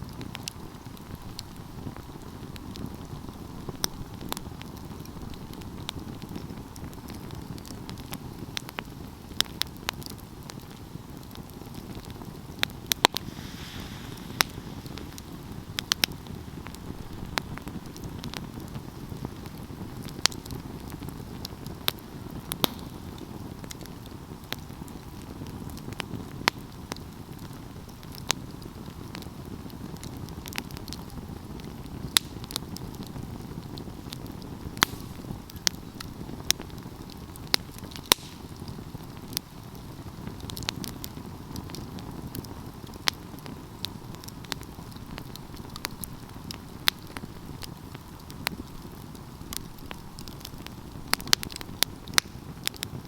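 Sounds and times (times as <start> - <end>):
fire crackling and popping: 0.0 - 53.0
rush of flames: 0.0 - 53.0.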